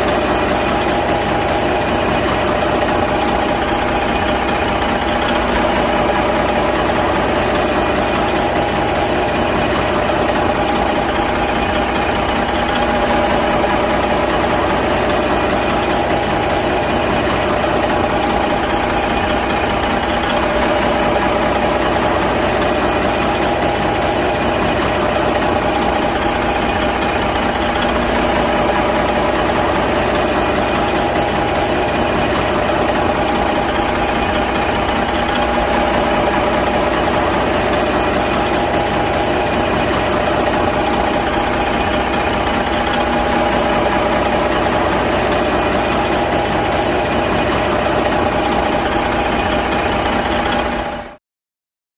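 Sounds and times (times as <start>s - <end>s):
diesel truck engine idling: 0.0s - 51.2s.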